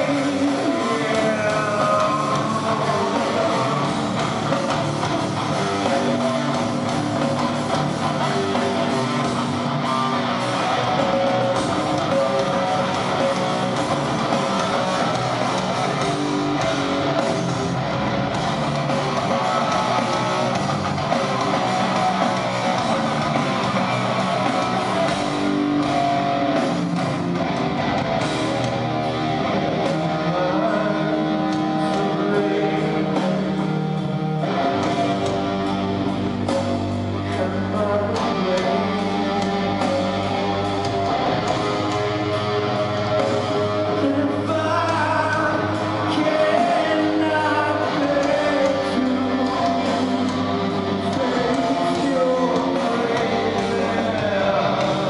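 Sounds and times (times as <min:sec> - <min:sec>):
live heavy rock music: 0:00.0 - 0:55.0.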